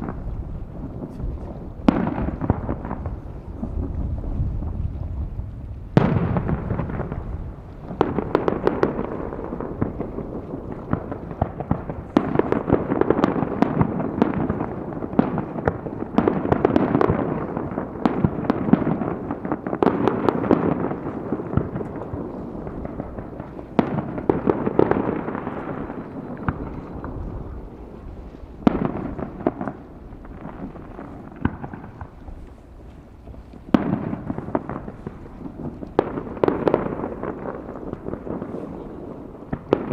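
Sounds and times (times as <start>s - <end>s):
firework shells bursting: 5.9s - 39.9s.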